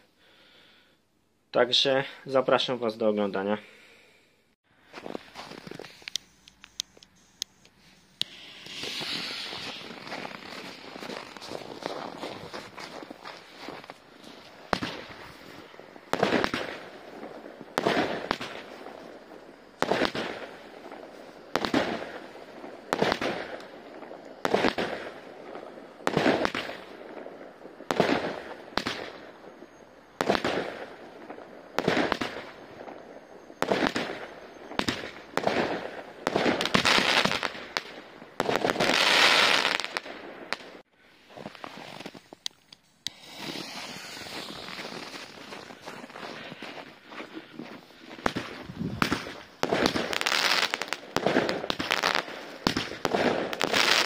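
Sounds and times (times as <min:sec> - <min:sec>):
firework shots crackling: 0:05.9 - 0:29.4, 0:30.2 - 0:33.0, 0:33.6 - 0:40.8, 0:41.8 - 0:47.0, 0:47.7 - 0:54.0.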